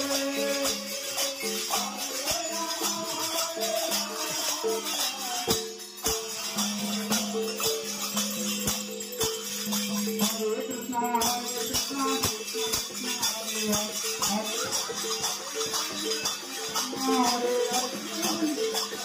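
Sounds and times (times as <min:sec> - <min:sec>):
hand cymbals struck rhythmically: 0:00.0 - 0:19.0
metallic jingling: 0:00.0 - 0:19.0.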